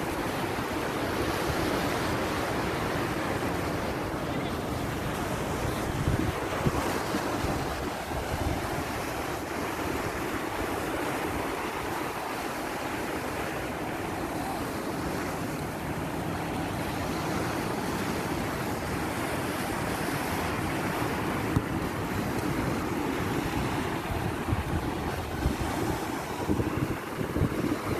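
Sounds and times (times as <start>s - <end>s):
surf washing onto beach: 0.0s - 27.9s
wind buffeting microphone: 4.9s - 27.9s.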